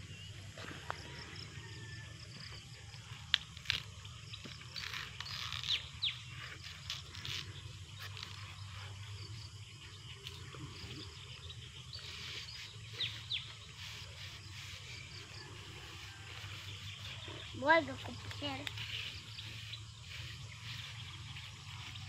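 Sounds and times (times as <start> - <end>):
crickets hissing: 3.1 - 22.0.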